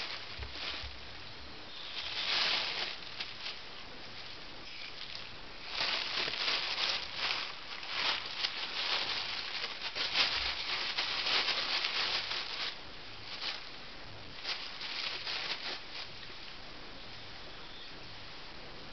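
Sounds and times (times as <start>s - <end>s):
plastic bag rustling: 0.0s - 16.6s.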